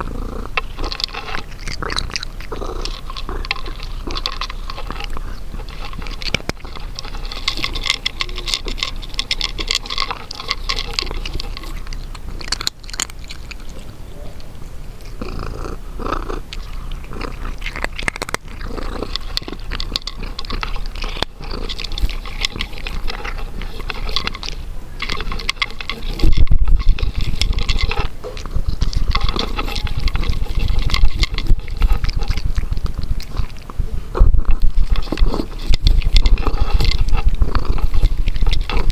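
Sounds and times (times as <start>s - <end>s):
cat chewing and smacking: 0.0s - 38.9s.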